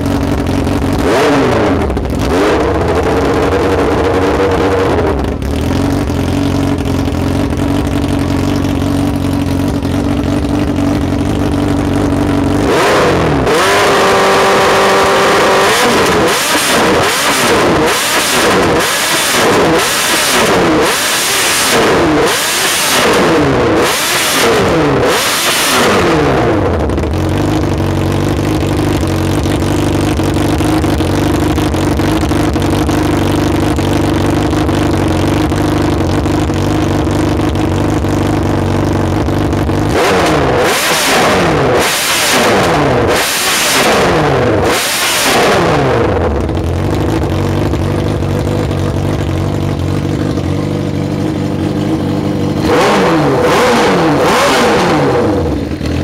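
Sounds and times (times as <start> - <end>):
motorcycle engine revving and idling: 0.0 - 56.0.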